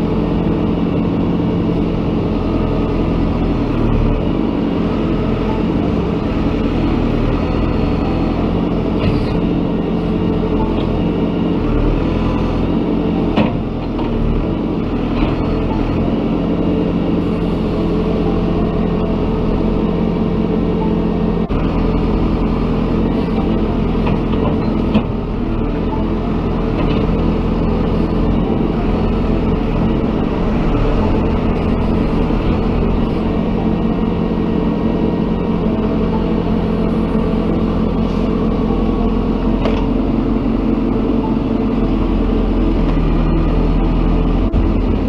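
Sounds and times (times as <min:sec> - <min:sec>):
heavy machine engine running: 0:00.0 - 0:45.0.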